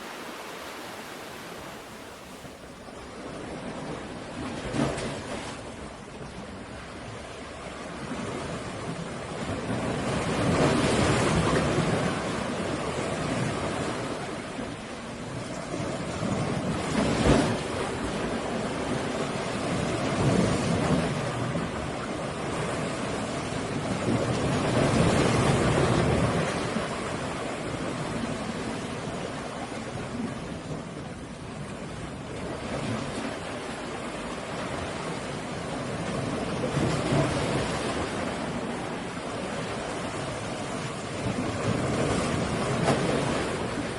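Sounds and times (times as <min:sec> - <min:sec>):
ocean waves breaking: 0:00.0 - 0:43.9.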